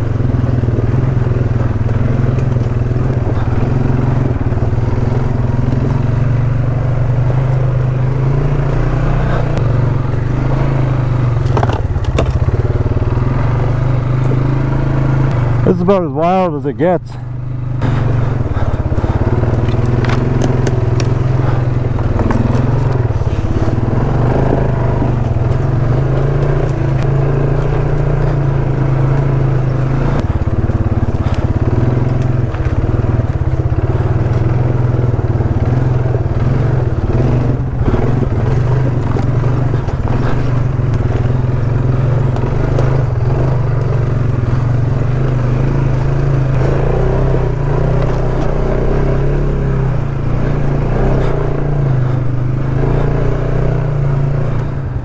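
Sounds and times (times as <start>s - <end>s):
clicks and scrapes over ground: 0.0s - 17.2s, 17.8s - 53.8s
atv engine running: 0.0s - 55.0s.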